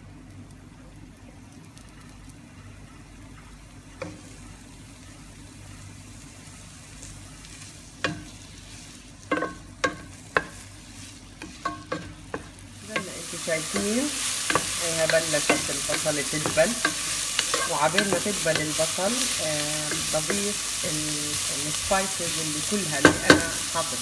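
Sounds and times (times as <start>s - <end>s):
onions sizzling in a pan: 0.0s - 24.0s.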